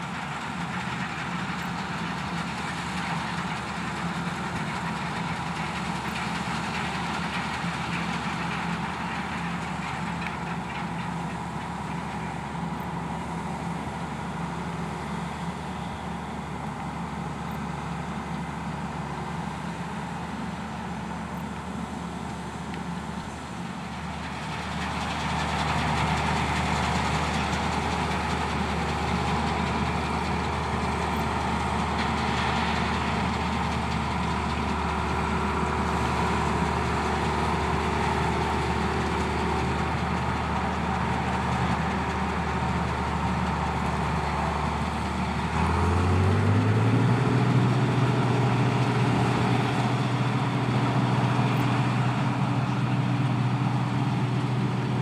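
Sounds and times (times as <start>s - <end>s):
combine harvester diesel engine: 0.0s - 55.0s
working machinery noise: 0.0s - 55.0s.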